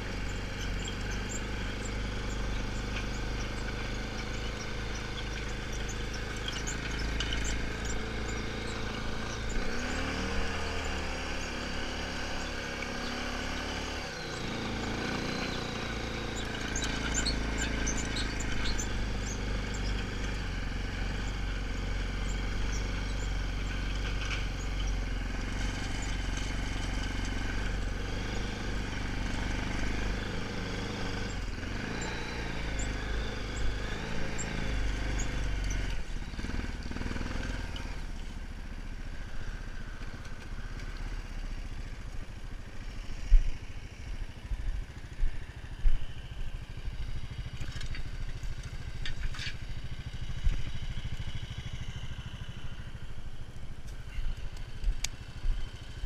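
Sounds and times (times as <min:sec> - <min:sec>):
atv engine running and idling: 0:00.0 - 0:56.0.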